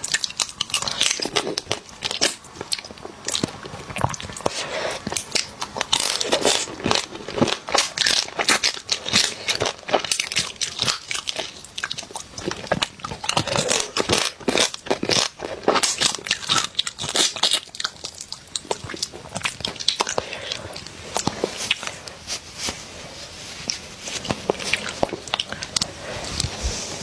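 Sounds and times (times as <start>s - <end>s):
crunching and chewing: 0.0s - 27.0s.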